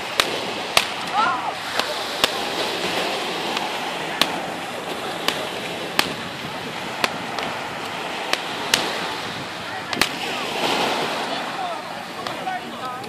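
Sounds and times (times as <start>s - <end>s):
fireworks bangs: 0.0s - 10.8s
crowd chatter: 0.0s - 13.0s.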